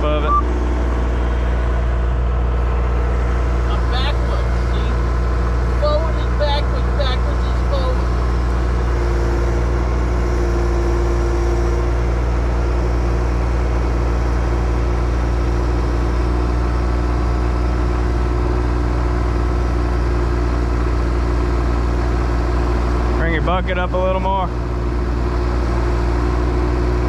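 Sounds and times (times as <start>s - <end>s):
mini excavator diesel engine: 0.0s - 27.0s.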